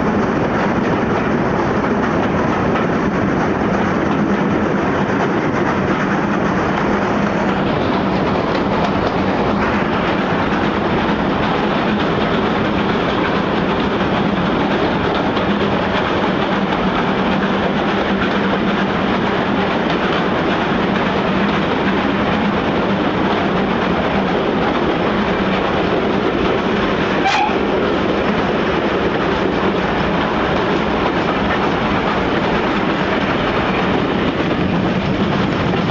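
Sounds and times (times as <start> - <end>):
steam locomotive in a tunnel: 0.0 - 35.9
train wheels on rails: 0.0 - 35.9.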